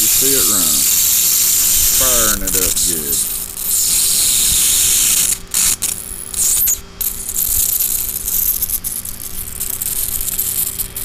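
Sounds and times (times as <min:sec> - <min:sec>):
plasma globe hissing and buzzing: 0:00.0 - 0:11.0
steady hum: 0:00.0 - 0:11.0.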